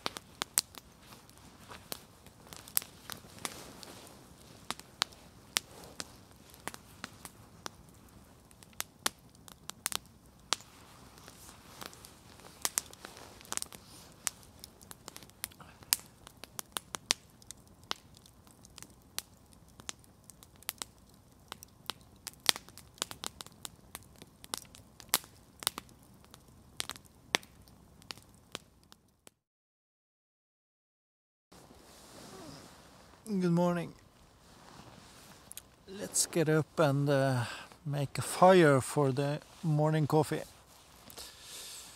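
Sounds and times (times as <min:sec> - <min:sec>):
faint steady hiss: 0:00.0 - 0:28.0, 0:31.6 - 0:41.9
burning wood popping: 0:00.0 - 0:29.2, 0:31.6 - 0:41.9
campfire crackling: 0:00.0 - 0:29.4, 0:31.5 - 0:41.9.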